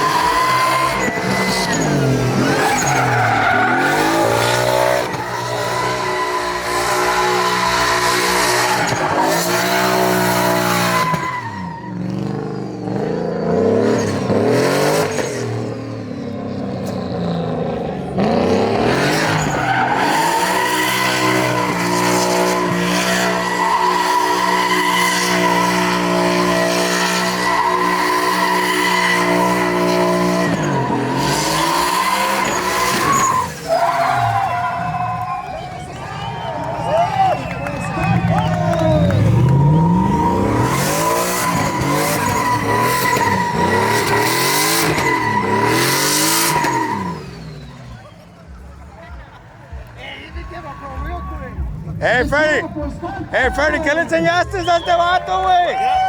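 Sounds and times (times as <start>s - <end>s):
tyres screeching: 0.0s - 15.4s, 18.6s - 48.4s
truck engine revving: 0.0s - 50.0s.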